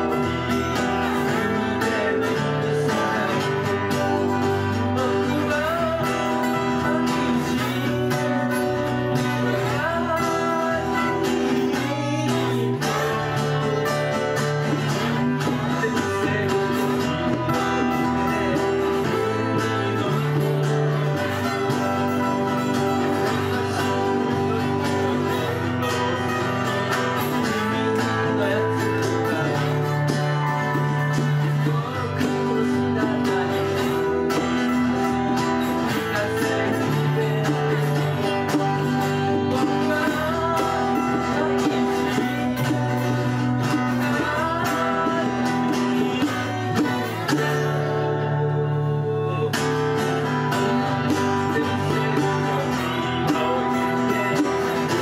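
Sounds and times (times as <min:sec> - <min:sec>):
bass line: 0:00.0 - 0:55.0
folk band playing: 0:00.0 - 0:55.0.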